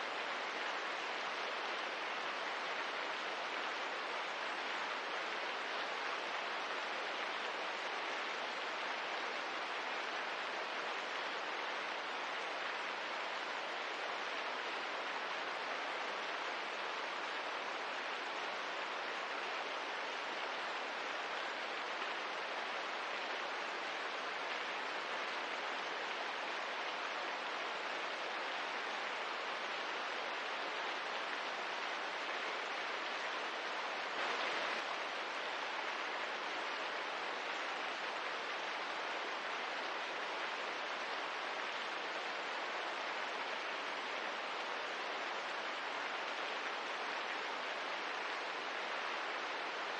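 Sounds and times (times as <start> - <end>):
gentle rain hiss: 0.0 - 49.9.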